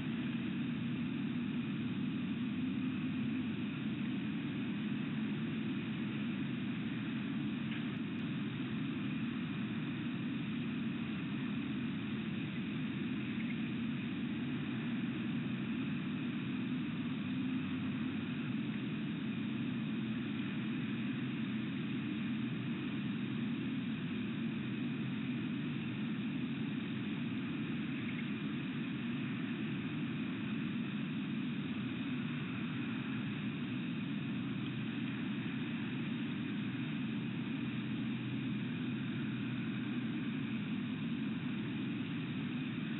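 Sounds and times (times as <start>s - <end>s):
faint high hiss: 0.0s - 42.9s
low outdoor rumble: 0.0s - 42.9s.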